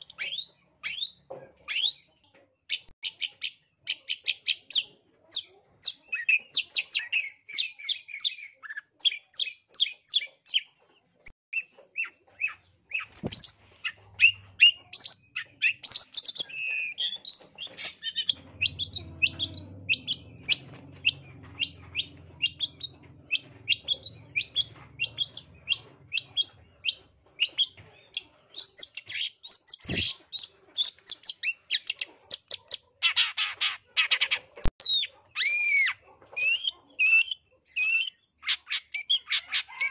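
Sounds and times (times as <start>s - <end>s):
bird chattering song: 0.0s - 10.8s, 11.5s - 39.9s.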